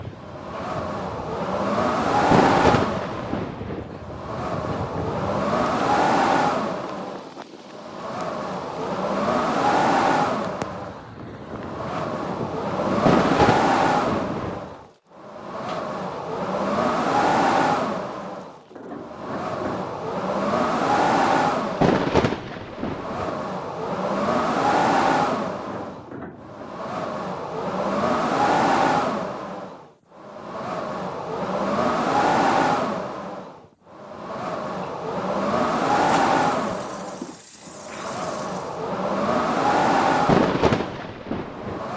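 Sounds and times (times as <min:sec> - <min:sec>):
howling blizzard wind: 0:00.0 - 0:41.9.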